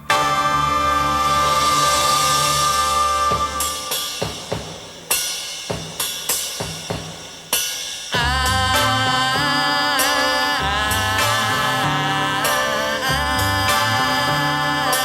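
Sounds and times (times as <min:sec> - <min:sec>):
cymbal and drum strikes: 0:00.0 - 0:15.0.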